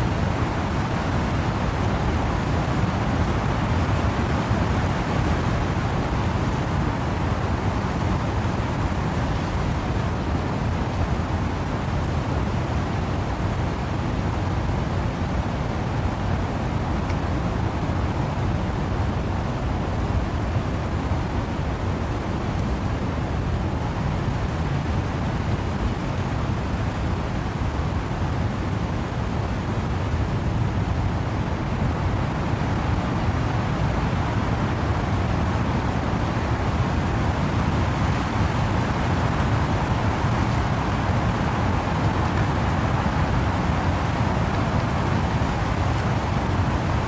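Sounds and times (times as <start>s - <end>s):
wind and rain in trees: 0.0s - 47.0s.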